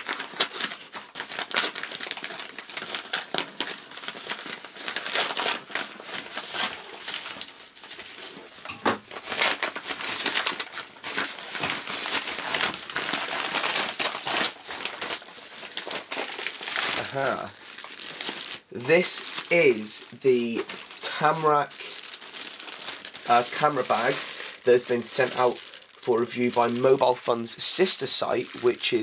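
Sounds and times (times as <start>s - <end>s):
plastic packaging crinkling: 0.0s - 29.0s.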